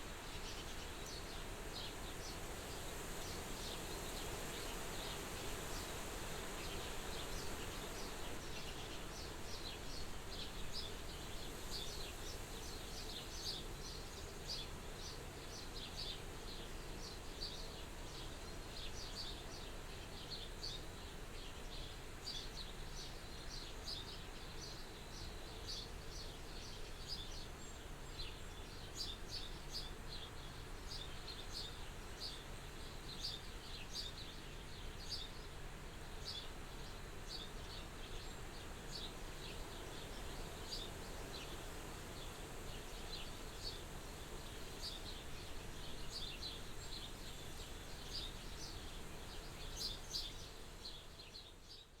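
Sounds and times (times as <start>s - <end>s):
small birds chirping: 6.6s - 52.0s.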